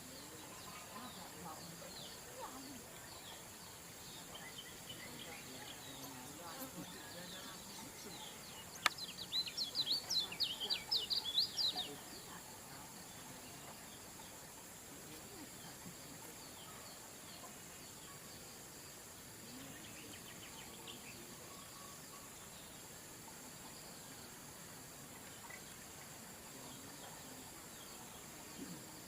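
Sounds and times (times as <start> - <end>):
faint chirps: 0.0 - 29.0
songbird singing high chirps: 0.0 - 29.0.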